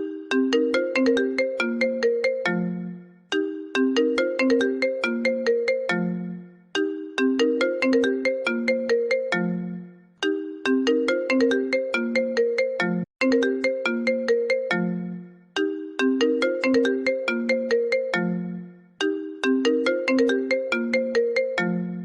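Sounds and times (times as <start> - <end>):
phone ringtone melody: 0.0 - 22.0.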